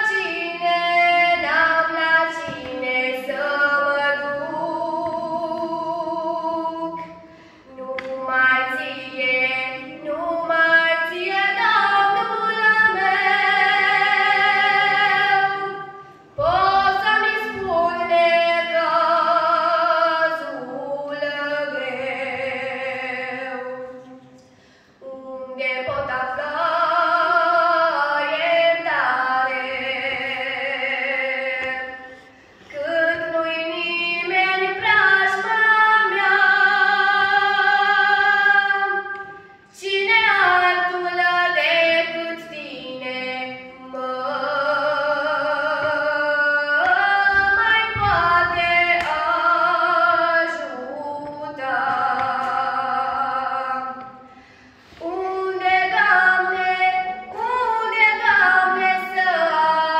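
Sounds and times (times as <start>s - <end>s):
woman singing into a microphone: 0.0s - 59.9s.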